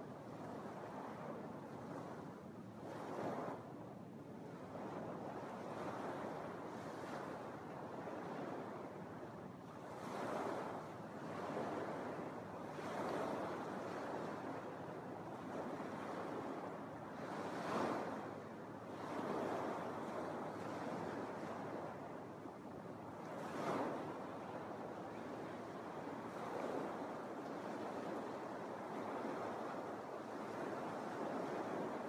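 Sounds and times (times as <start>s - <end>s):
waves breaking on sandy beach: 4.4s - 32.0s.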